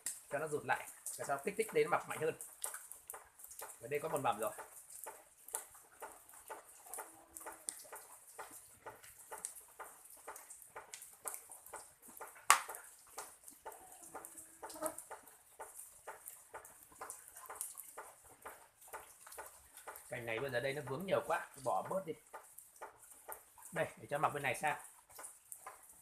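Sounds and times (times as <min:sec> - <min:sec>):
rain dripping on leaves: 0:00.0 - 0:26.0.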